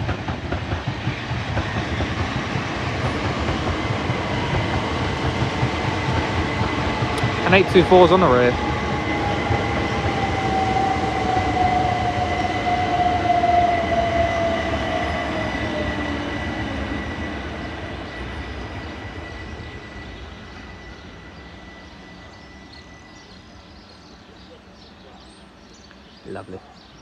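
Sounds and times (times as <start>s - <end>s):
electric train whine slowing: 0.0s - 25.0s.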